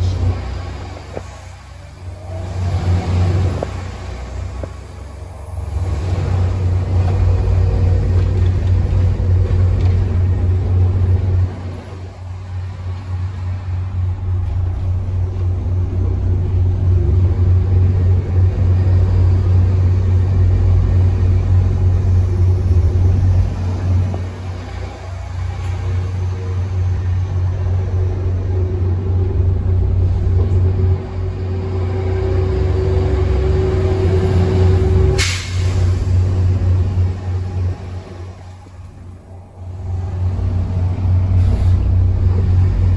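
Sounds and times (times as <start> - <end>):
bus diesel engine rumbling: 0.0 - 42.9.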